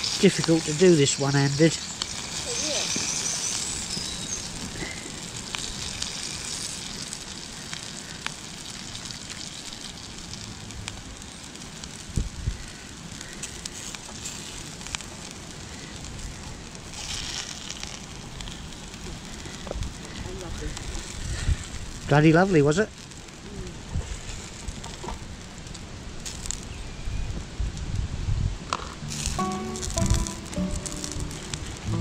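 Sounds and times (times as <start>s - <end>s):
bacon sizzling in frying pan: 0.0s - 27.3s, 29.0s - 32.0s.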